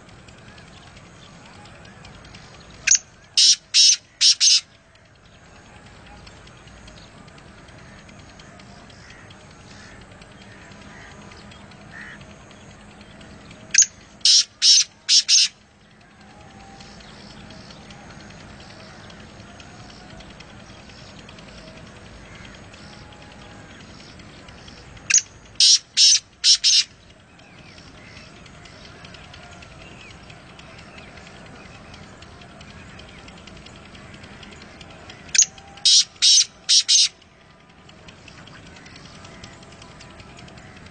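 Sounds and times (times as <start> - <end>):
bird calling harsh notes: 0.0 - 40.9.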